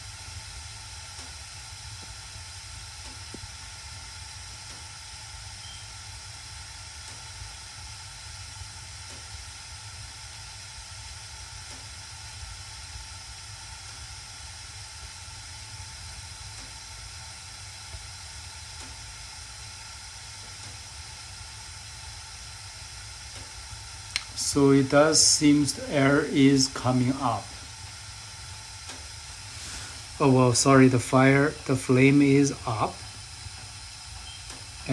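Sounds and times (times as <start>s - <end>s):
gas furnace burners hissing: 0.0s - 34.9s.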